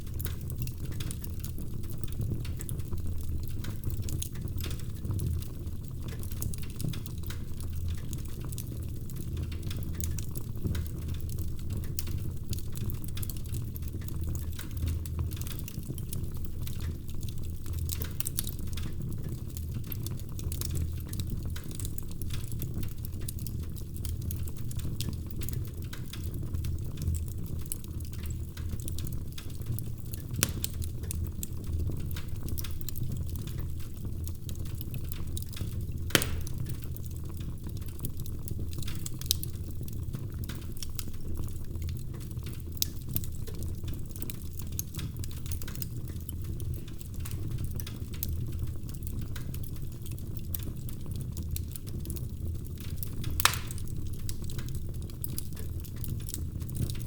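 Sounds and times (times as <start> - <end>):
wood fire crackling in fireplace: 0.0 - 57.0.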